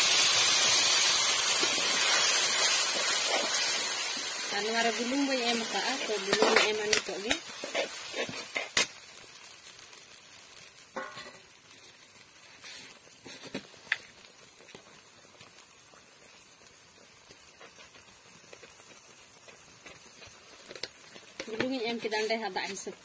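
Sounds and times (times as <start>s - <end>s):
chutney sizzling faintly: 0.0s - 23.0s.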